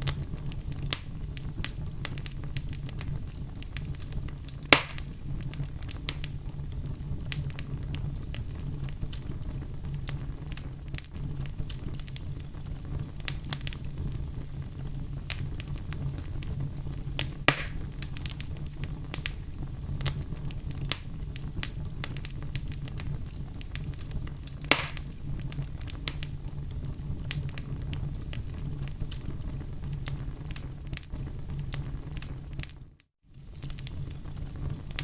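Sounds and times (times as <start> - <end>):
campfire crackling: 0.0 - 35.0
fire popping: 0.0 - 35.0.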